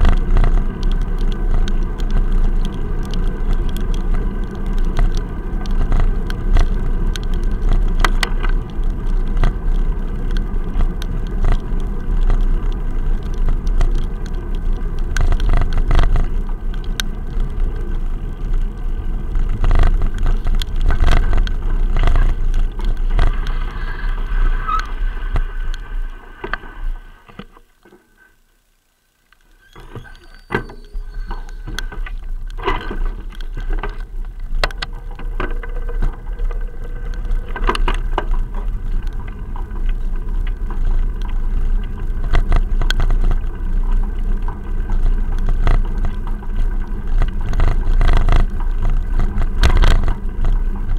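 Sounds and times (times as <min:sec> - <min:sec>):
bicycle rumbling over rough road: 0:00.0 - 0:50.9.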